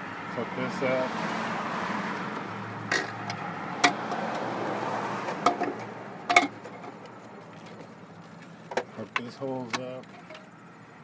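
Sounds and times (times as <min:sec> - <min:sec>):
engine parts clicking and knocking: 0:02.2 - 0:11.0.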